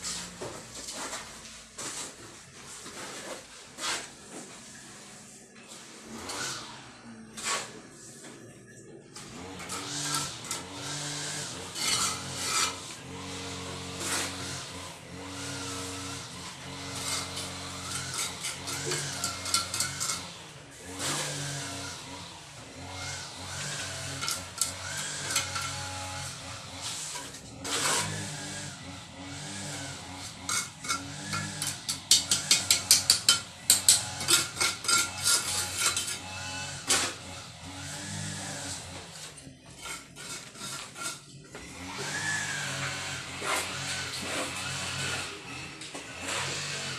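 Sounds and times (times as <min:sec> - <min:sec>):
hand tool scraping concrete wall: 0:00.0 - 0:08.4, 0:09.2 - 0:46.9.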